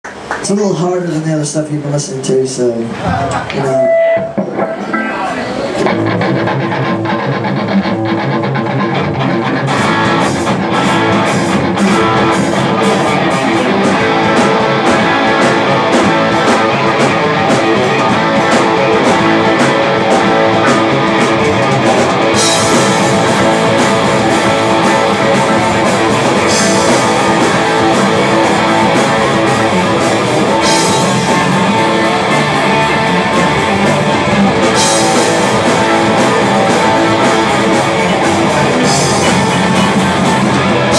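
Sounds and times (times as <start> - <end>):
steady drum beat: 0.2 - 40.9
live rock band playing: 1.0 - 40.9.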